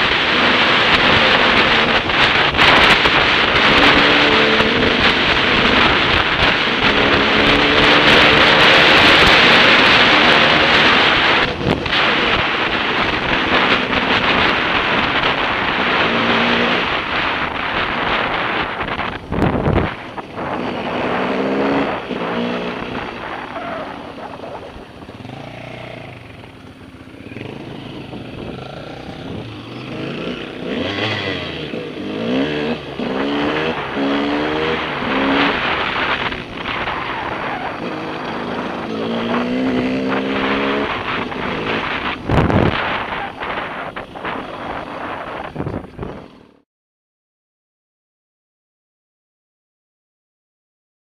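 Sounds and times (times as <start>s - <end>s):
dirt bike engine revving: 0.0s - 46.6s
wind rushing over microphone: 0.0s - 46.6s.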